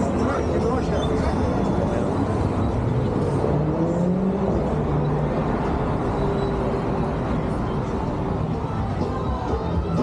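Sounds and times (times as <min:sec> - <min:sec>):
cars driving past: 0:00.0 - 0:09.5
road noise hum: 0:00.0 - 0:10.0.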